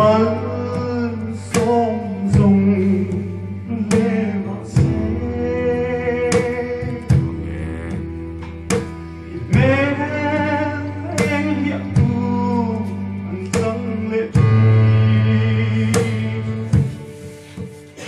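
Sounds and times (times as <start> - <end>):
man singing through microphone: 0.0 - 8.3, 9.3 - 17.2
amplified backing music: 0.0 - 18.0.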